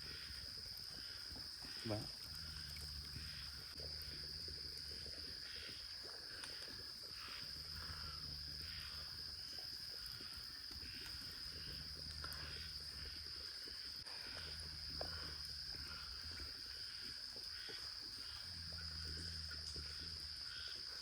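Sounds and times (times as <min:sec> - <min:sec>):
crickets droning: 0:00.0 - 0:21.0
soft insect calls: 0:00.0 - 0:21.0.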